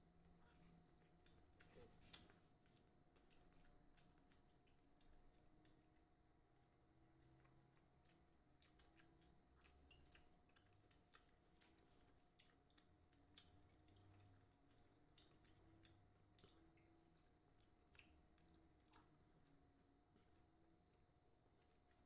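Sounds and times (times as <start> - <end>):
people chewing: 0.0 - 20.9.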